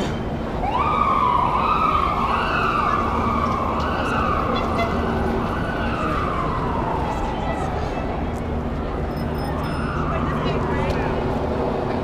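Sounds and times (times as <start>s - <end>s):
crowd noise: 0.0s - 12.0s
street noise: 0.0s - 12.0s
police siren wailing: 0.5s - 11.3s.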